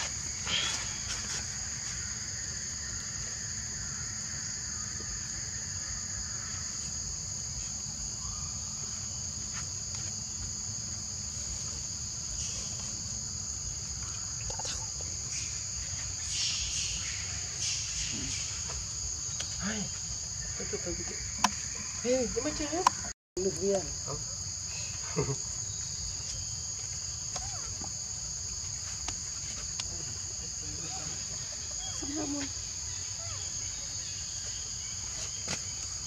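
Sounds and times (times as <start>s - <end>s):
insect chorus drone: 0.0s - 36.0s.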